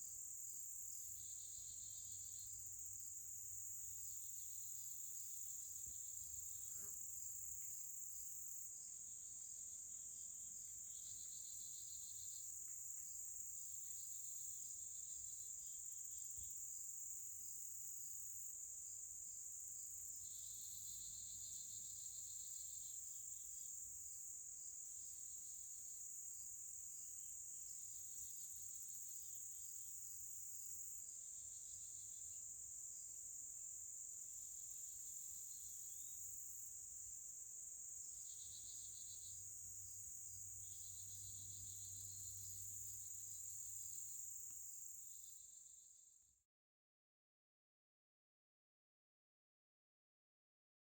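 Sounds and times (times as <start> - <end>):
insect pulsing chirp: 0.0 - 18.6, 19.2 - 46.4
insect high steady trill: 0.0 - 46.4.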